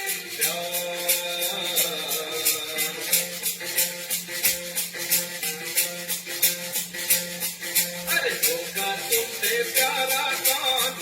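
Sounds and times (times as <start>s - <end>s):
high rattling rhythm: 0.0s - 11.0s.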